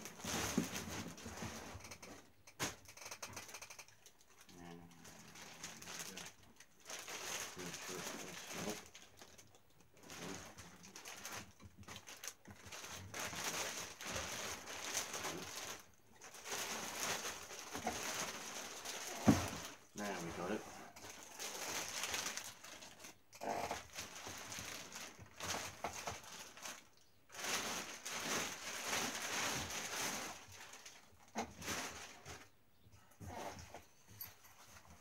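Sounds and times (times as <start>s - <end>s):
plastic wrapping crinkling: 0.0s - 32.5s.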